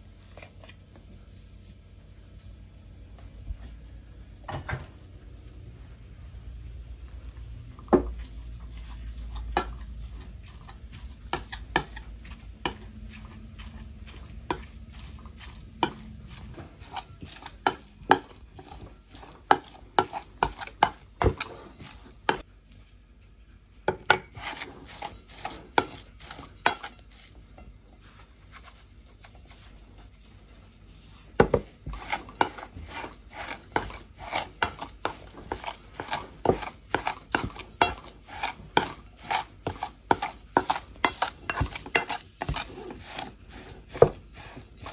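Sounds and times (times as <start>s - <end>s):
spoon mashing cottage cheese: 7.7s - 44.9s.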